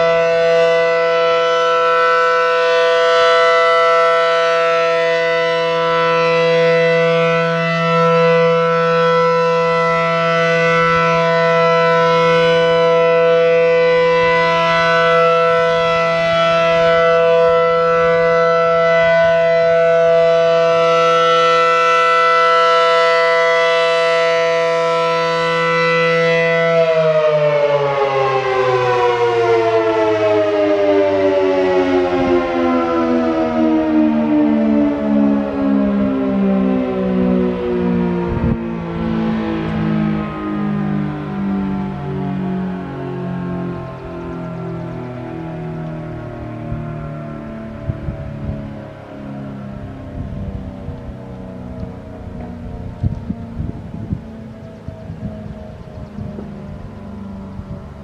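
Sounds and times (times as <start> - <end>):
siren winding down: 0.0 - 58.0
warning siren chord: 0.0 - 58.0.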